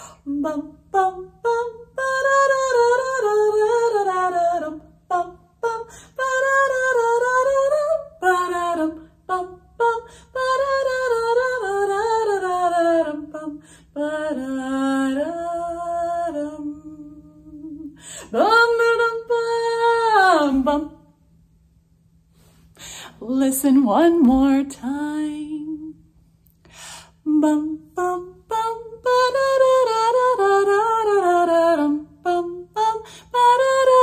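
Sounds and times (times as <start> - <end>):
woman singing unaccompanied: 0.0 - 21.1, 23.1 - 26.0, 27.1 - 34.0.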